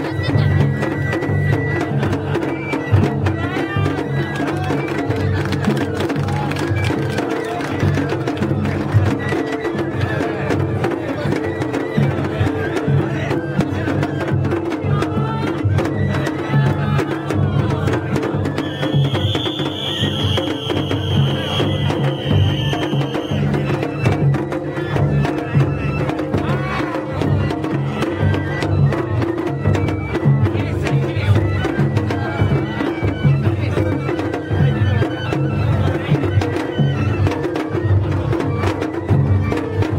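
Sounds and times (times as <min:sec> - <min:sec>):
high flute melody: 0:00.0 - 0:08.1, 0:09.1 - 0:39.9
taiko drums beating: 0:00.0 - 0:39.9.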